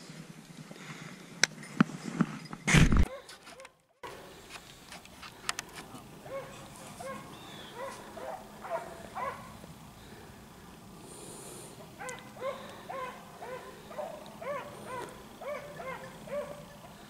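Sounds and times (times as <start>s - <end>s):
beagles baying: 3.1s - 17.0s.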